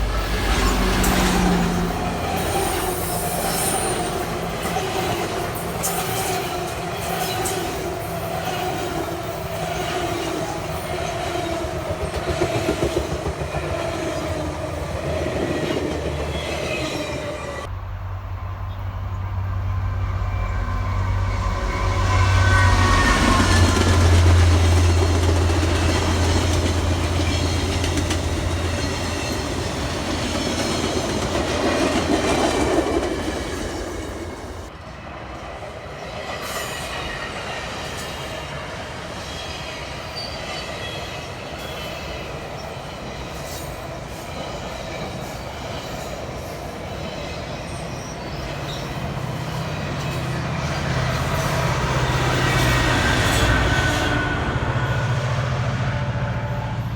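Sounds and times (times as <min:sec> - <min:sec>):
diesel locomotive engine drone: 0:00.0 - 0:40.2, 0:41.3 - 0:56.9
train wheels squealing and clicking: 0:00.1 - 0:17.7, 0:20.0 - 0:34.7, 0:35.9 - 0:55.7.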